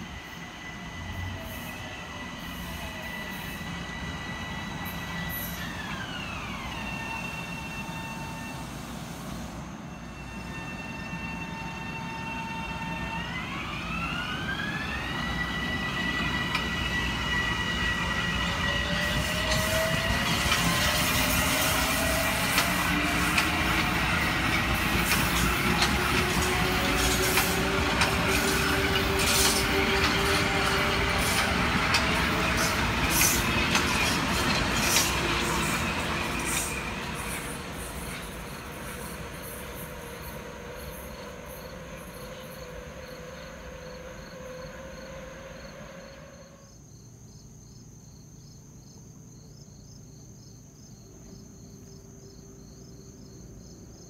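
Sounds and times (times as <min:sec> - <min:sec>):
train wheels clicking on rails: 0:00.0 - 0:09.6, 0:11.1 - 0:44.9
electric train propulsion whine: 0:00.0 - 0:47.0.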